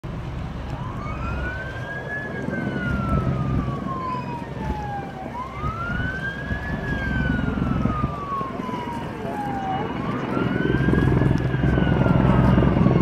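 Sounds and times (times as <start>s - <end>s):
emergency siren wailing: 0.2s - 13.0s.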